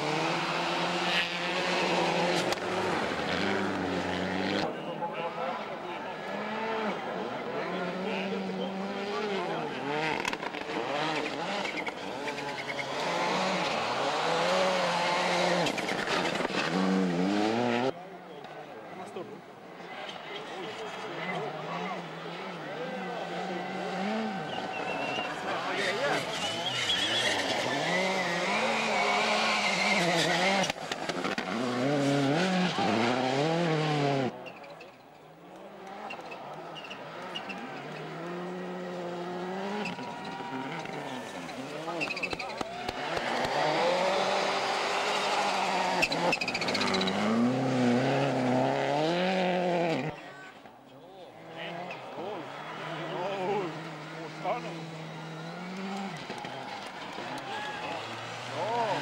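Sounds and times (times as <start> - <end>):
rally car engine revving: 0.0 - 18.0, 19.9 - 34.5, 35.5 - 50.2, 51.3 - 59.0.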